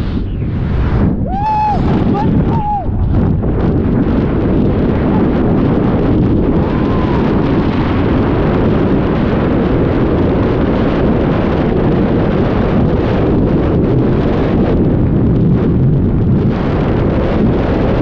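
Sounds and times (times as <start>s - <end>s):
wind blasting over microphone: 0.0s - 18.0s.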